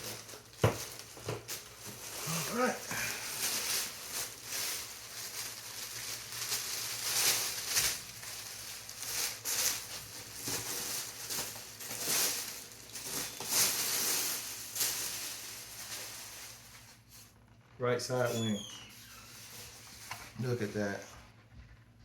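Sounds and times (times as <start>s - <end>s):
plastic wrapping rustling: 0.0s - 21.7s.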